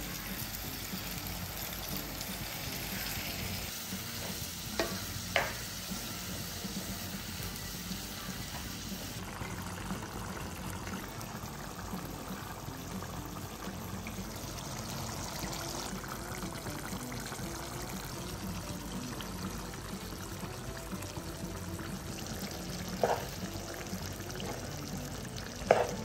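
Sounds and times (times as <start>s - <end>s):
curry sizzling in a pan: 0.0s - 26.0s.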